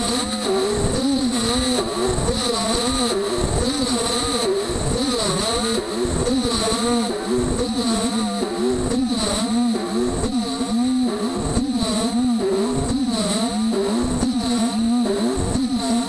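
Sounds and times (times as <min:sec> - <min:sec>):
steady high whine: 0:00.0 - 0:16.0.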